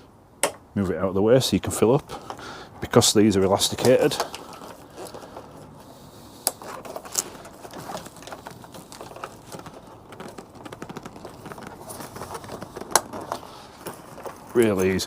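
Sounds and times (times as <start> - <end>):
fabric and straps rustling: 1.8 - 15.0.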